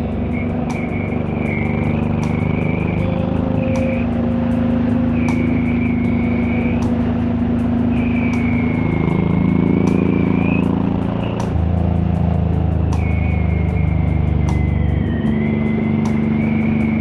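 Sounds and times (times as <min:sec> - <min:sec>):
motorcycle engine and exhaust: 0:00.0 - 0:17.0.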